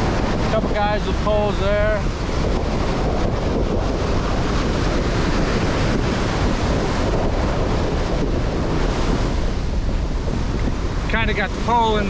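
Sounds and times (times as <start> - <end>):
surf breaking on a beach: 0.0 - 12.0
wind buffeting the microphone: 0.0 - 12.0.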